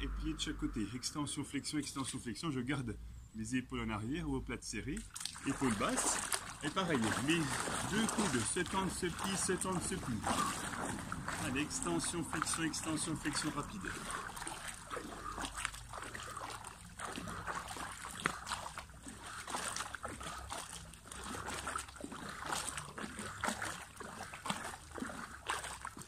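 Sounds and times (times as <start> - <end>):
pool water splashing: 3.5 - 26.0.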